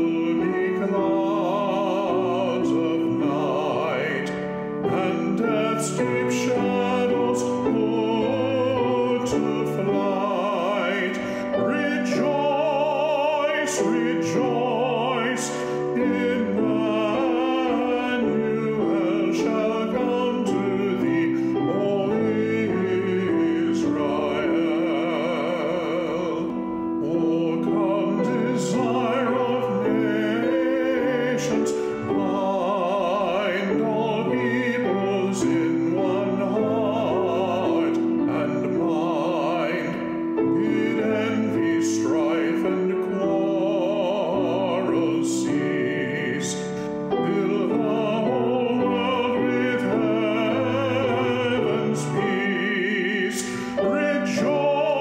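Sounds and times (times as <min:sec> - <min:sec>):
classical singing voice: 0:00.0 - 0:55.0
piano chords: 0:00.0 - 0:55.0.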